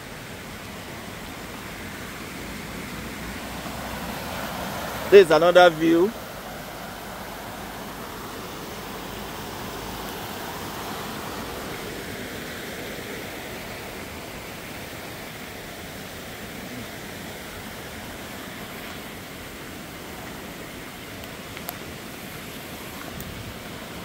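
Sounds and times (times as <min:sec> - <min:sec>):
water cascading over rocks: 0:00.0 - 0:24.0.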